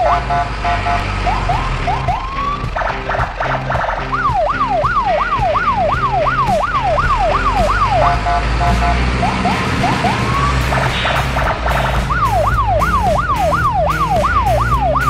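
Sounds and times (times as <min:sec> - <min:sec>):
electronic siren wailing: 0:00.0 - 0:03.1, 0:03.9 - 0:15.0.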